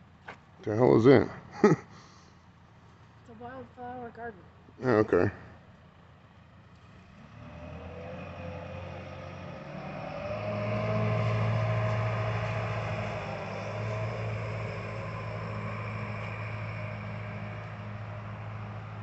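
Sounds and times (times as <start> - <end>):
motor vehicle humming: 0.0 - 19.0.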